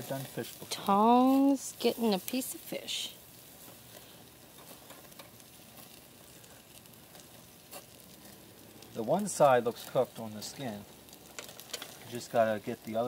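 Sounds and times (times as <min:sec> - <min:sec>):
fish sizzling on grill: 0:00.0 - 0:13.0
light crackles: 0:00.0 - 0:13.0.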